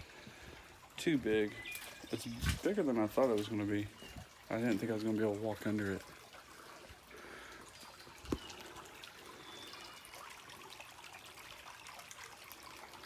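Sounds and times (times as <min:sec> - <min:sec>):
stream trickling over rock: 0:00.0 - 0:13.0.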